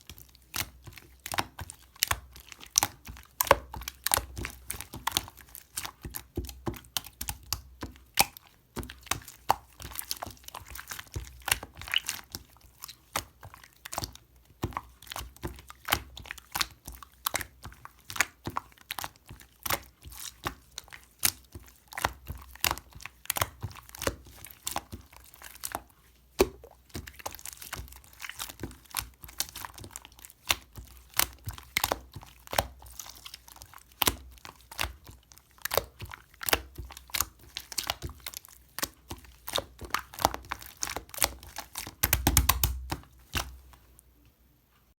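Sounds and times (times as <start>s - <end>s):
slime squelching and popping: 0.0s - 44.0s.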